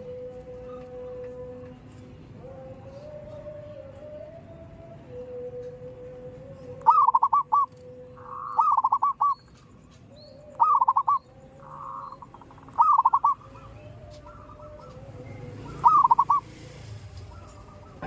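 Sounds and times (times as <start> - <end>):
dove trilled coos: 0.0 - 18.0
faint steady hum: 0.0 - 18.0.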